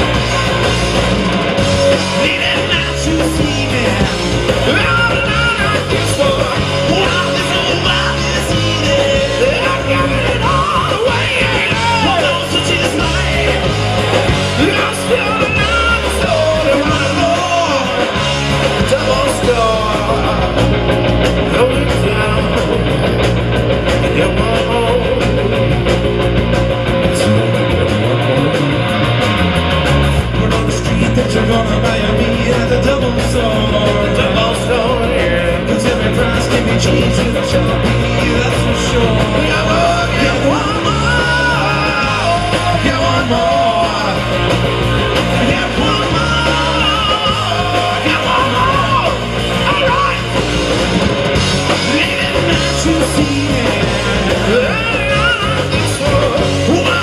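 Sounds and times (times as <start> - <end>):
live band playing with vocals: 0.0 - 57.0.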